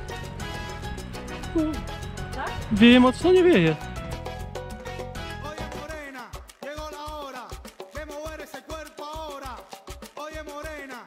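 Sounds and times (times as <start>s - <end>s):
salsa music: 0.0s - 11.0s.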